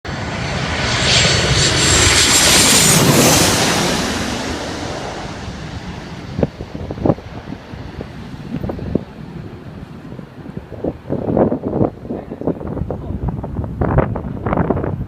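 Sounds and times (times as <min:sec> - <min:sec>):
high fan whine dropping in pitch: 0:00.1 - 0:15.0
jet engines roaring past: 0:00.1 - 0:15.0.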